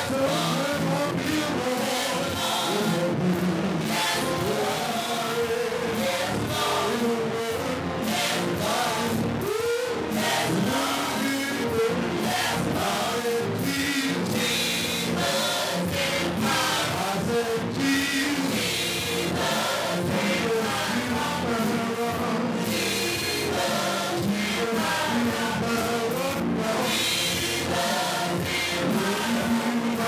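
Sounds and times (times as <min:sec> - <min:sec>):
gospel choir singing: 0:00.0 - 0:30.0.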